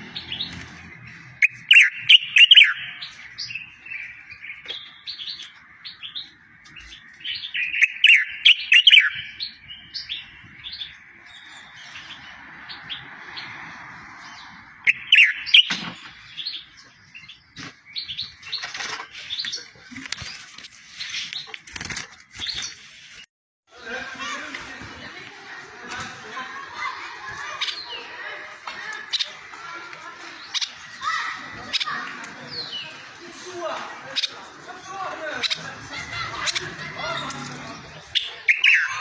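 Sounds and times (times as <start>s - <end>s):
songbird chirping and trilling: 0.0s - 39.0s.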